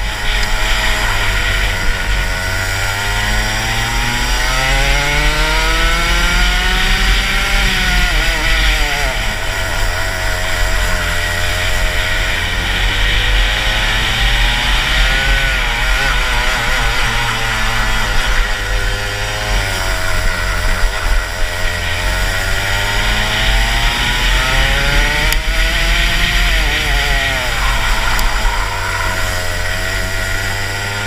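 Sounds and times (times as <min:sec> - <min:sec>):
kart engine revving: 0:00.0 - 0:31.0.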